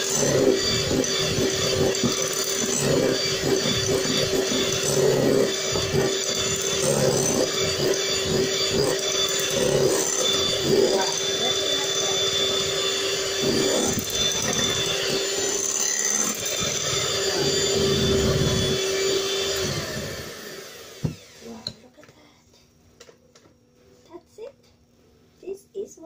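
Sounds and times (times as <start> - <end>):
electric hand mixer whisking: 0.0 - 21.7.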